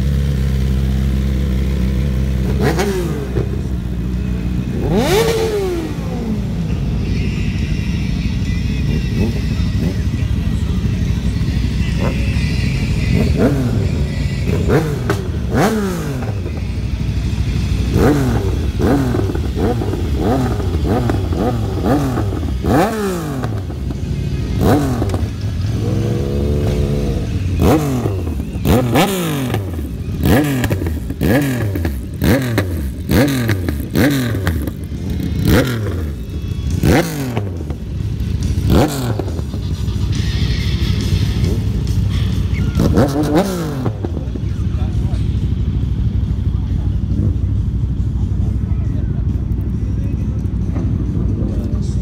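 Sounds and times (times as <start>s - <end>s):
motorcycle engines revving: 0.0s - 52.0s.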